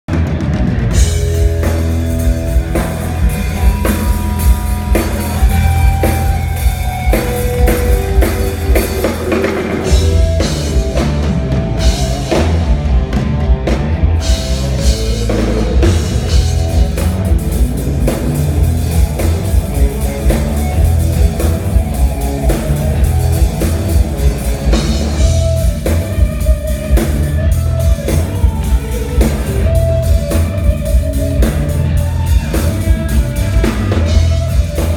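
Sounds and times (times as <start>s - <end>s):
heavy bass: 0.0s - 34.9s
drum kit beat: 0.1s - 34.9s
rock band instrumental: 0.1s - 34.9s
sustained guitar lead: 0.1s - 34.9s.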